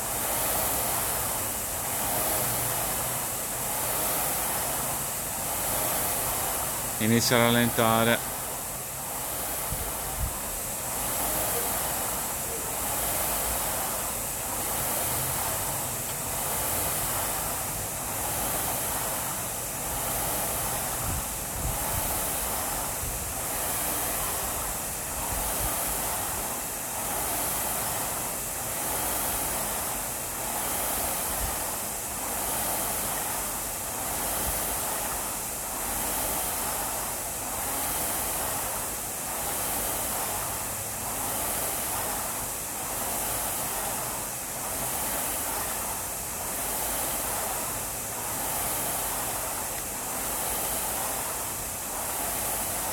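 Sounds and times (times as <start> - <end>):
rowing machine flywheel whooshing: 0.0 - 52.9.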